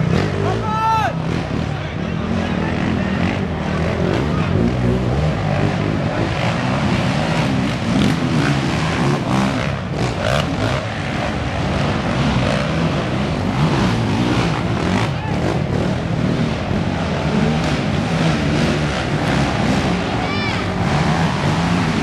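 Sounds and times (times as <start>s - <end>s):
quad engine revving loudly: 2.5s - 22.0s.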